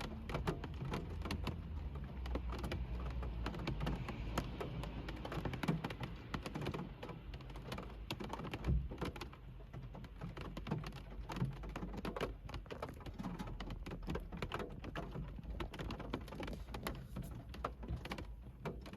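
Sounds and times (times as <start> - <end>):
rain on car roof: 0.0 - 18.9.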